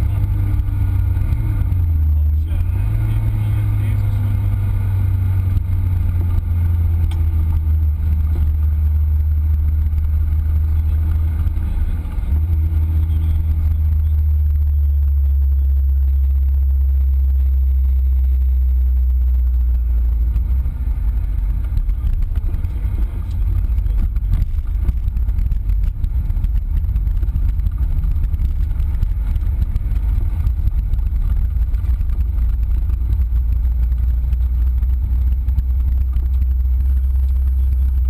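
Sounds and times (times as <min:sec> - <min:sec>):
car engine humming at low revs: 0:00.0 - 0:38.0.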